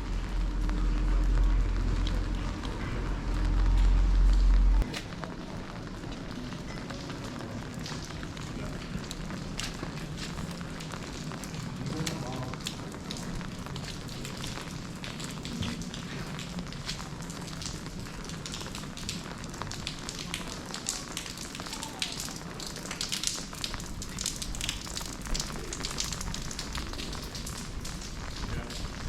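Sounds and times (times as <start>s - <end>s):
rain falling: 0.0s - 29.0s.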